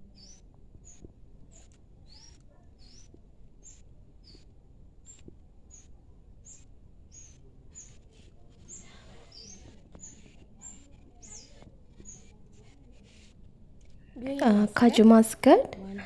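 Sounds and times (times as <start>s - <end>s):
small bird chirping: 0.0s - 13.3s.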